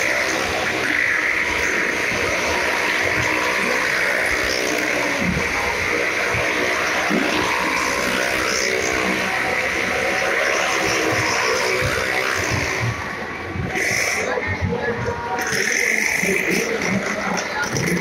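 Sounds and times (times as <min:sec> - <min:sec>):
car and motorcycle engines droning: 0:00.0 - 0:18.0.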